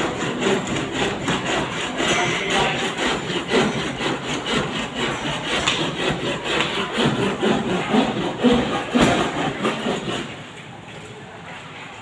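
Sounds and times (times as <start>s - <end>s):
hand saw rasping: 0.0s - 10.5s.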